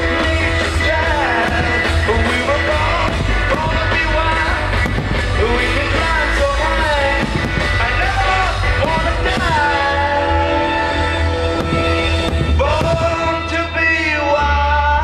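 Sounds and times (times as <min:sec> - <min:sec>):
rock song with singer: 0:00.0 - 0:15.0.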